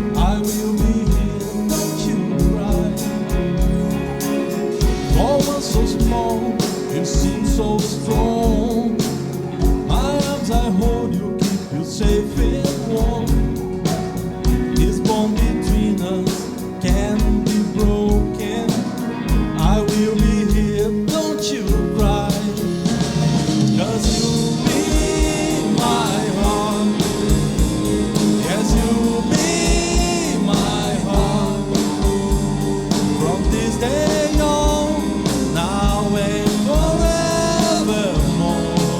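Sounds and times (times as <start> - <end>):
bass guitar: 0.0 - 38.9
drum kit steady beat: 0.0 - 38.9
electric guitars: 0.0 - 38.9
keyboard: 0.0 - 38.9
person singing: 0.0 - 38.9.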